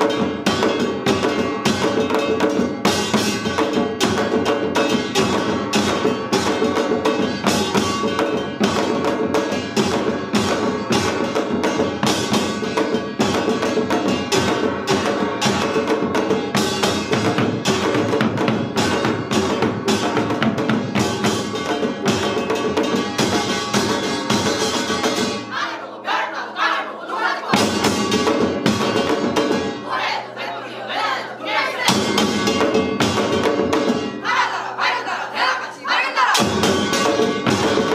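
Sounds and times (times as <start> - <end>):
percussion ensemble drumming: 0.0 - 37.9.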